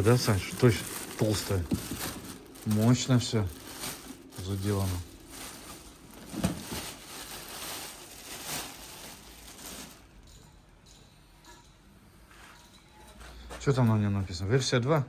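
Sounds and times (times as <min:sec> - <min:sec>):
rustling and light clatter: 0:00.0 - 0:03.0, 0:03.7 - 0:14.0.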